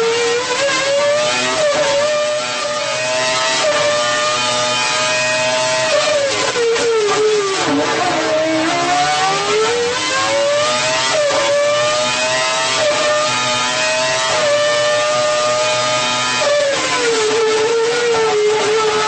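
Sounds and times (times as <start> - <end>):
racing engine at high revs: 0.0 - 19.0.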